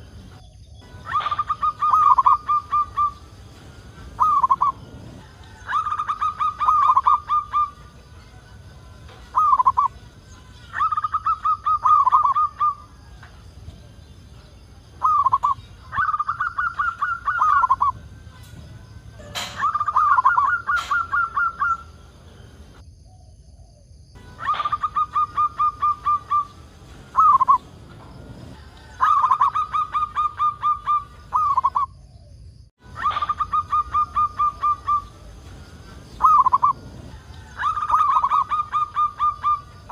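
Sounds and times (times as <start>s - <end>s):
dove cooing: 0.0s - 8.0s, 9.2s - 10.0s, 10.7s - 13.2s, 13.8s - 22.8s, 24.3s - 31.9s, 33.0s - 39.9s.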